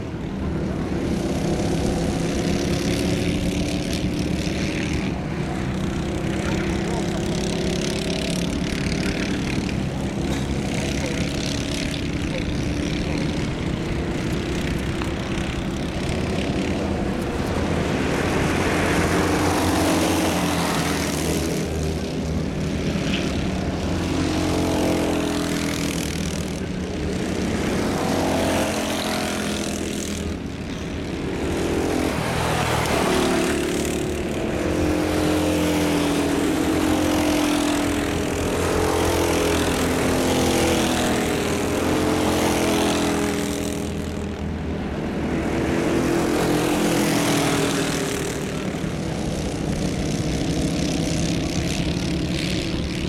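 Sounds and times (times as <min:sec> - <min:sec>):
racing kart engines buzzing: 0:00.0 - 0:53.0.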